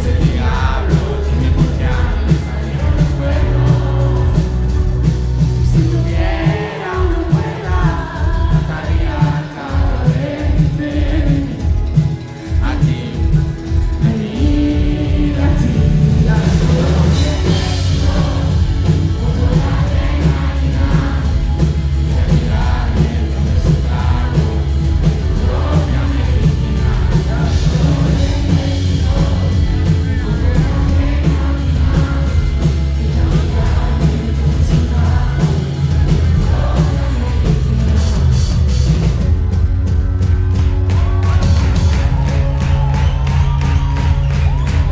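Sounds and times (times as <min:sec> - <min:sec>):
person singing: 0:00.0 - 0:39.2
live pop-rock band: 0:00.0 - 0:44.9.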